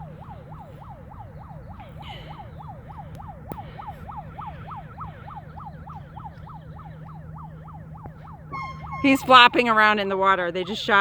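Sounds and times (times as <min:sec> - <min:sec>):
steady low hum: 0:00.0 - 0:11.0
yelp siren wailing: 0:00.0 - 0:11.0.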